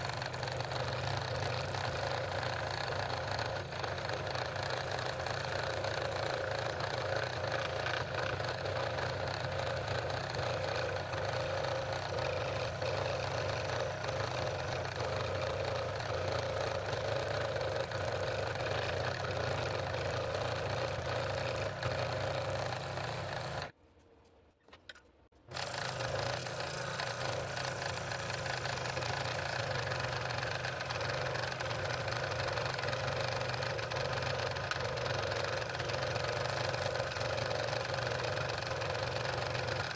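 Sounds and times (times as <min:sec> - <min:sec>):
scroll saw cutting wood: 0:00.0 - 0:23.7, 0:25.5 - 0:39.9.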